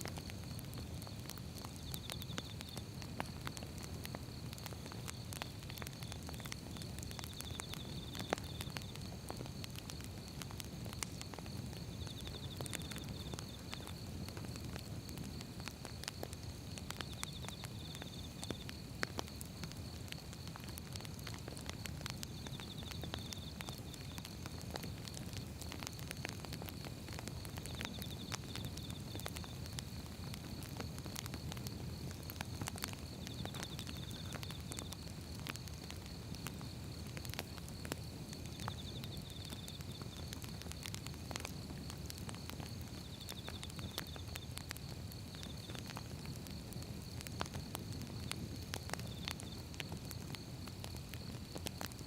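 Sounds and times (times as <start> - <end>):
firewood crackling and popping: 0.0 - 52.0
low rumble of flames: 0.0 - 52.0.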